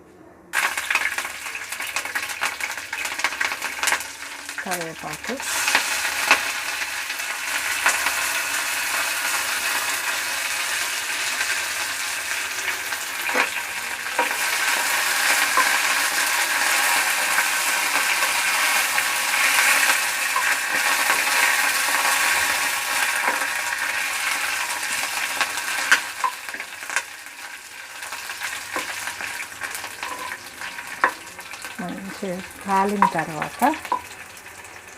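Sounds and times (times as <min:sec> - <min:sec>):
chillies sizzling in hot oil: 0:00.5 - 0:34.9.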